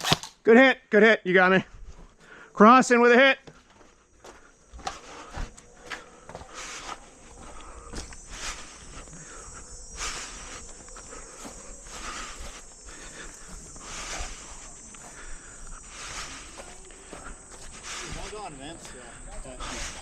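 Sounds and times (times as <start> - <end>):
footsteps walking: 1.7 - 2.2, 3.4 - 20.0
high-pitched insect drone: 1.9 - 20.0.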